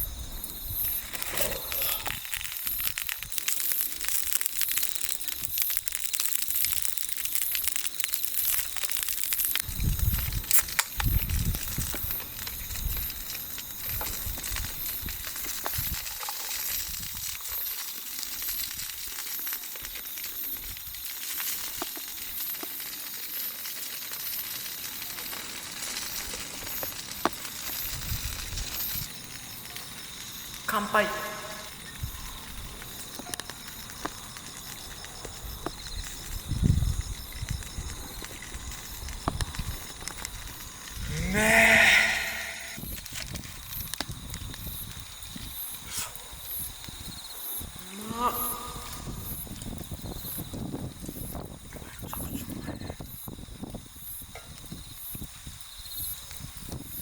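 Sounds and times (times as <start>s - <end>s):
bonfire crackling: 0.0s - 57.0s
insects chirring: 0.0s - 57.0s.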